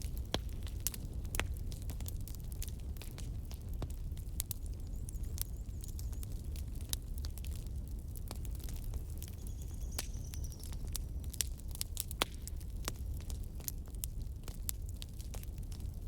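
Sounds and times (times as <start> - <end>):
firewood crackling: 0.0 - 16.0
low rumble of fire: 0.0 - 16.0.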